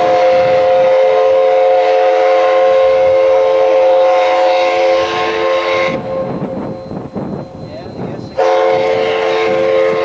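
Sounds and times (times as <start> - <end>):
steam locomotive whistle chime: 0.0 - 10.0.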